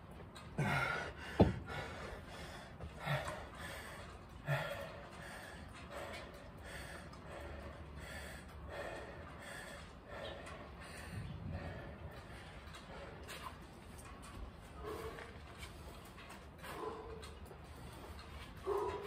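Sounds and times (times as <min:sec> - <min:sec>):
man breathing hard: 0:00.6 - 0:14.1, 0:14.7 - 0:19.0.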